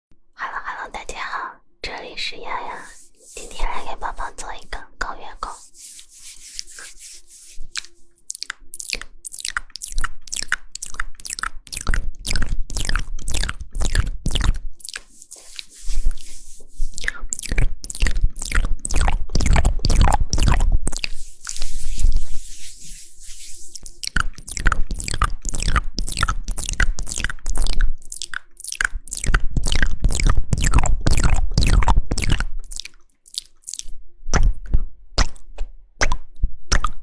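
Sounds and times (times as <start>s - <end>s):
wet mouth clicks and smacks: 6.2s - 37.0s.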